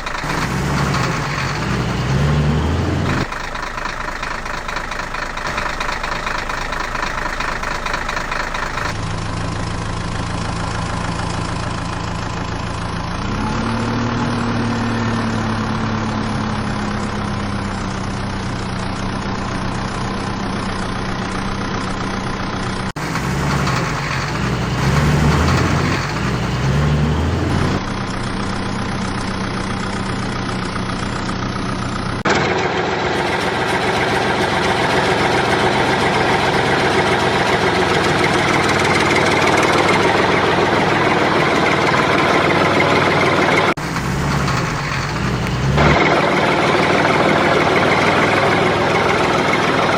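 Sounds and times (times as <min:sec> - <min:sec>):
engine revving: 0:00.0 - 0:09.0, 0:12.6 - 0:18.7, 0:19.4 - 0:30.9, 0:32.2 - 0:49.9
heavy vehicle engines idling: 0:00.0 - 0:49.9.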